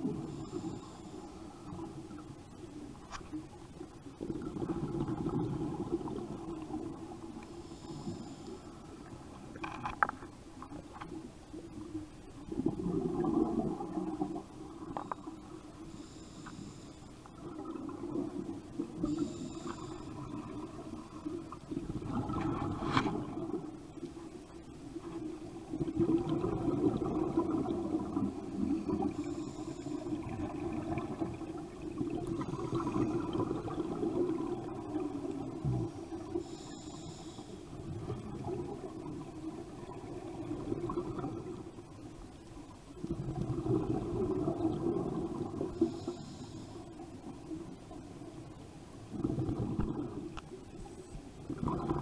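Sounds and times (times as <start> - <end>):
underwater bubbles gurgling: 0.0 - 52.0.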